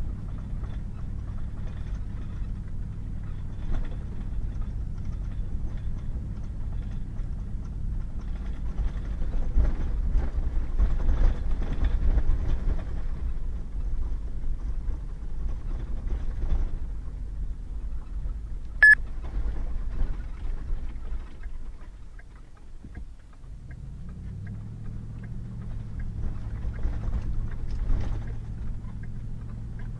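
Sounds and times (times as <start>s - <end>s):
truck engine and tyres rumbling: 0.0s - 29.9s.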